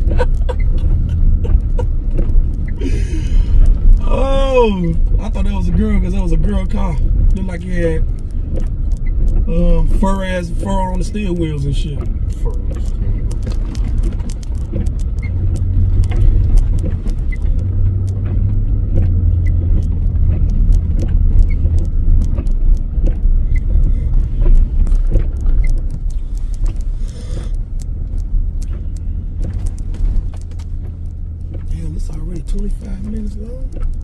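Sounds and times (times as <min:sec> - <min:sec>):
engine and tyre rumble: 0:00.0 - 0:34.0
small clicks and rattles: 0:05.0 - 0:09.5, 0:11.2 - 0:34.0.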